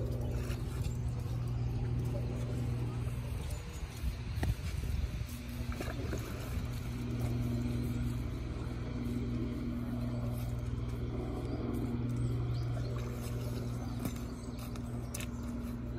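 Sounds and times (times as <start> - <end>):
low motor hum: 0.0 - 15.9.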